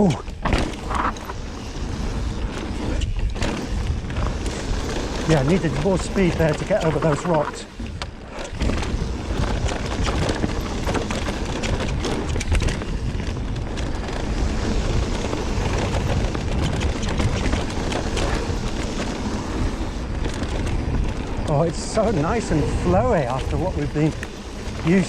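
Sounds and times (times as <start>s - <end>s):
bike knocks and rattles: 0.0s - 25.0s
bike tyres rumbling over dirt: 0.0s - 25.0s
wind on microphone: 0.0s - 25.0s.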